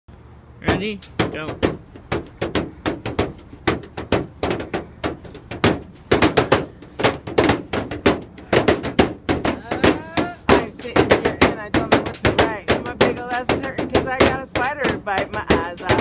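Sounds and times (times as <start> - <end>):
hands drumming on metal: 0.7 - 16.0.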